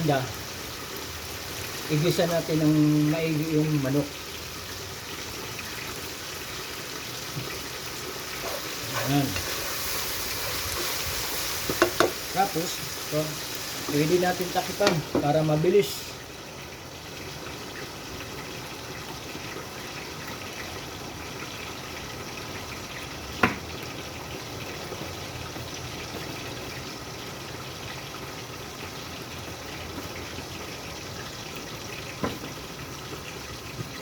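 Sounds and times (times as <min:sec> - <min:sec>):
chicken sizzling in a covered pan: 0:00.0 - 0:34.0.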